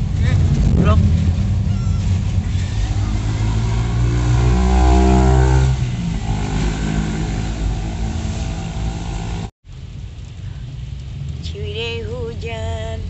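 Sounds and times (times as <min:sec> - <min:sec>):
car engine hum: 0:00.0 - 0:13.0
rain: 0:00.0 - 0:13.0
tyres hissing on wet road: 0:02.1 - 0:13.0.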